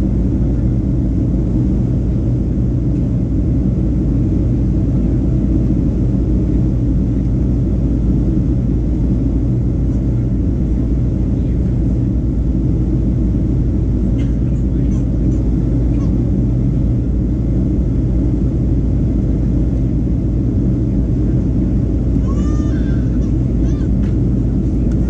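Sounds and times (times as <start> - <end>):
jet engines low rumble: 0.0 - 25.0.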